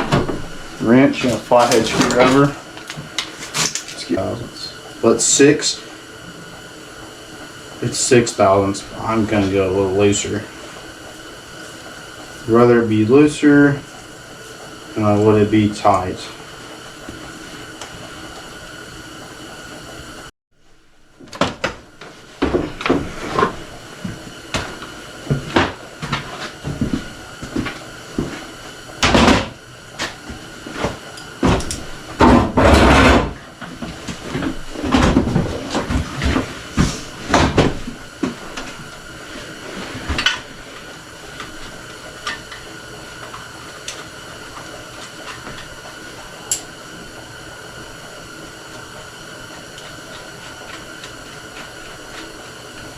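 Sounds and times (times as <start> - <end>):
steady background hum: 0.0 - 52.9.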